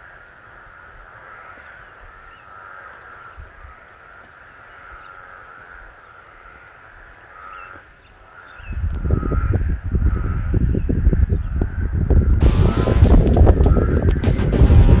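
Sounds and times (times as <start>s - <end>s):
frogs chorus: 0.0s - 14.6s
higher frog chirps: 0.0s - 15.0s.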